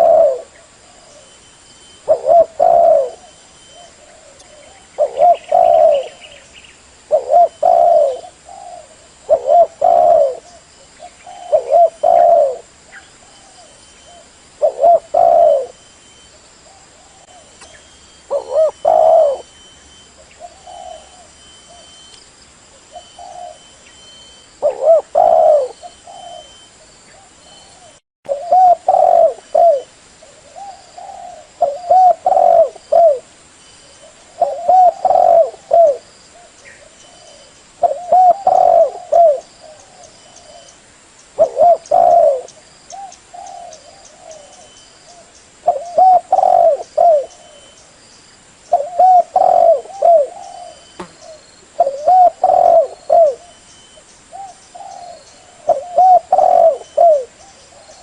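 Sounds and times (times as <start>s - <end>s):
dove cooing: 0.0s - 6.4s, 7.0s - 15.8s, 16.6s - 22.0s, 22.8s - 33.3s, 33.9s - 40.8s, 41.4s - 47.8s, 48.7s - 58.0s.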